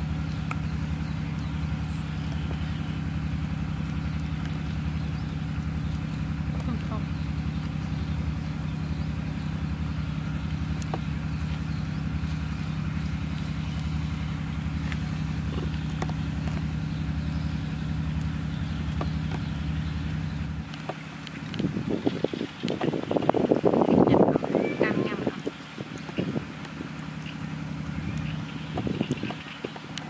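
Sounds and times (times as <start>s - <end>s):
engine drone with pulsing beat: 0.0s - 30.0s.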